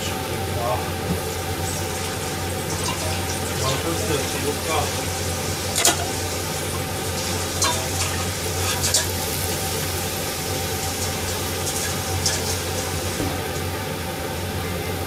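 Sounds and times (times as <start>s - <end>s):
food sizzling in a frying pan: 0.9s - 14.4s.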